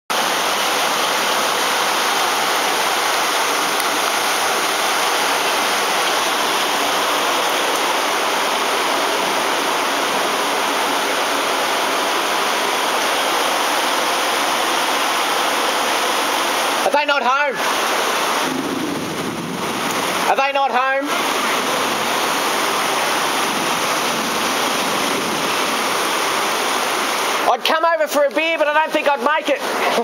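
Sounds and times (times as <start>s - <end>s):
heavy rain: 0.1s - 30.0s
running floodwater: 0.1s - 30.0s.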